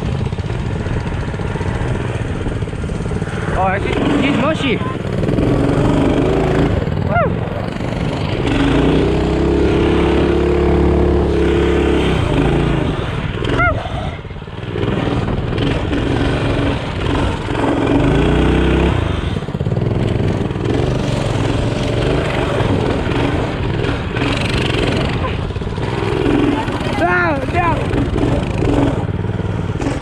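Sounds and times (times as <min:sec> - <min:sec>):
mini bike engine running: 0:00.0 - 0:30.0
rushing noise: 0:01.4 - 0:30.0.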